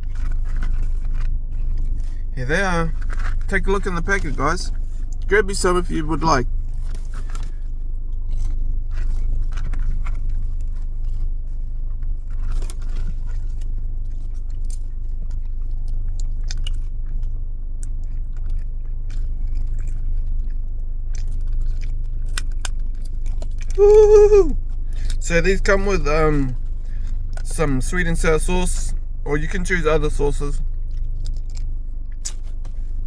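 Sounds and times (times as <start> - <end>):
crunchy food chewing: 0.0 - 28.3, 28.9 - 33.0
steady low hum: 0.0 - 33.0.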